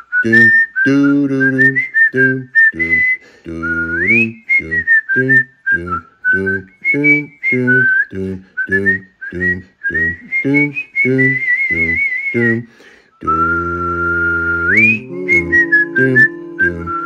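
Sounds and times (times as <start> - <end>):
person whistling a tune: 0.0 - 17.0.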